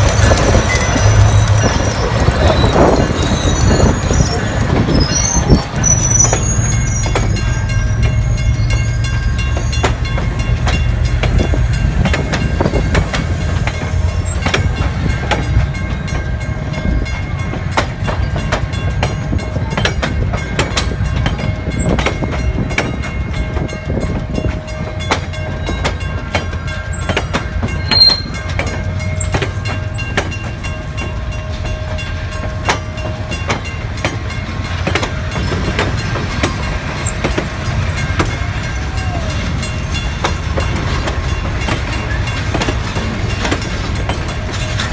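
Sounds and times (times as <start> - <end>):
locomotive engine rumble: 0.0 - 44.9
wheels clicking over rail joints: 0.0 - 44.9.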